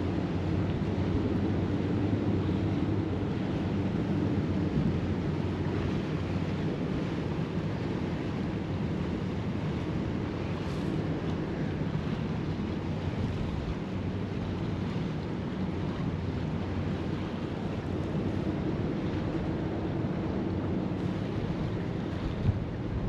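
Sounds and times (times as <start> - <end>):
waves washing: 0.0 - 23.0
wind rumbling on microphone: 0.0 - 23.0.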